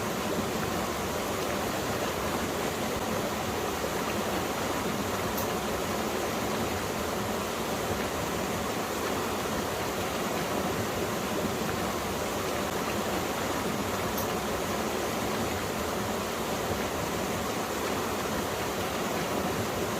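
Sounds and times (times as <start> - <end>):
stream flowing: 0.0 - 19.9.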